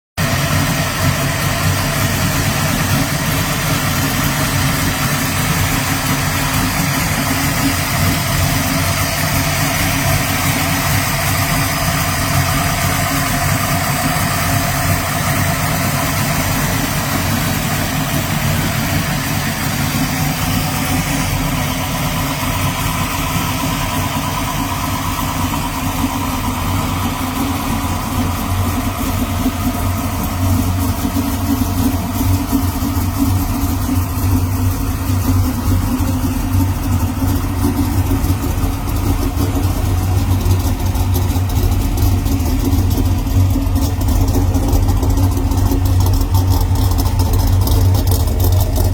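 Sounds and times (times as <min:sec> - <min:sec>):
car engine idling: 0:00.2 - 0:48.9.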